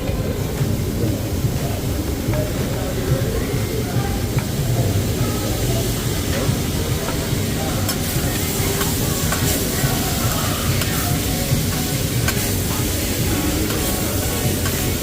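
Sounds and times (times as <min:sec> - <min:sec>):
background chatter: 0:00.0 - 0:15.0
food sizzling on a grill: 0:00.3 - 0:15.0.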